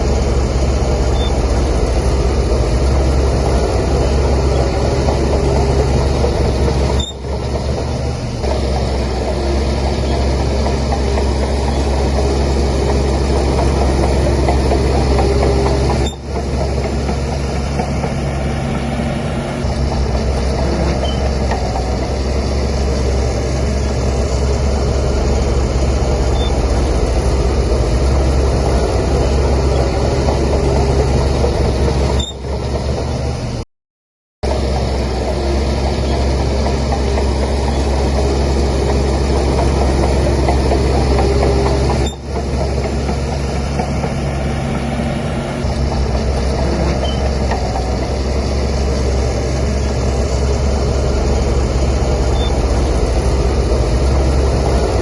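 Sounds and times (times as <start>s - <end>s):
bulldozer engine drone: 0.0s - 33.6s, 34.4s - 55.0s.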